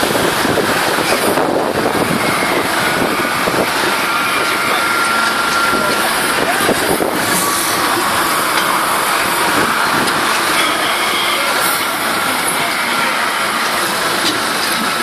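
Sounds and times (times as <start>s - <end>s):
motorised drive running: 0.0s - 15.0s.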